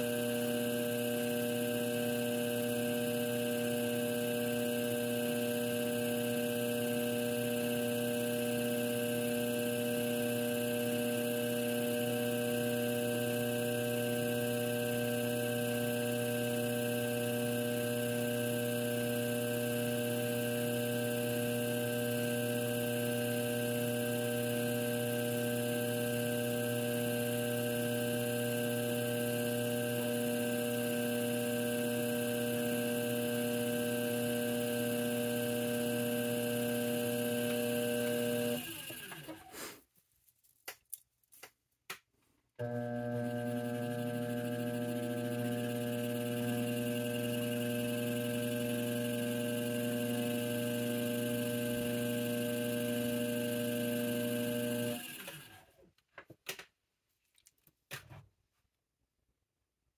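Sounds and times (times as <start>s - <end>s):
potter's wheel motor humming: 0.0s - 39.5s, 42.6s - 55.7s.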